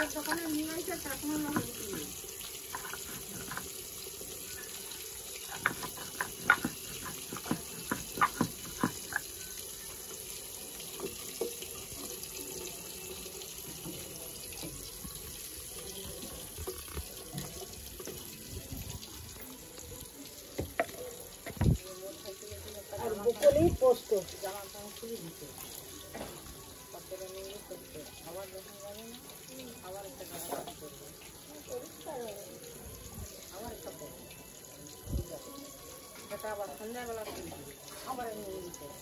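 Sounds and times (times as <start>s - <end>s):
fish frying in oil: 0.0s - 39.0s.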